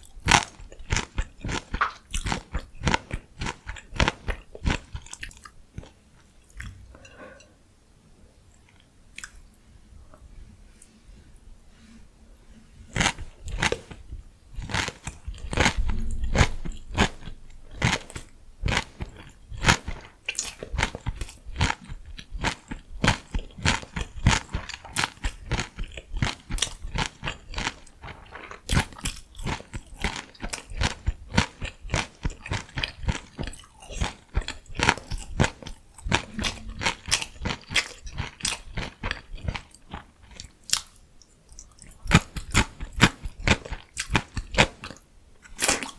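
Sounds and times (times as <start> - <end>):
crunchy vegetables being chewed: 0.0 - 7.2, 8.5 - 10.2, 12.9 - 45.9.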